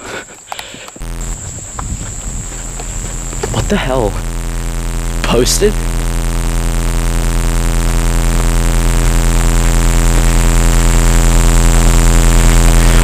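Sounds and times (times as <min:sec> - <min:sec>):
engine-like hum with pulsing beat: 0:01.0 - 0:13.0.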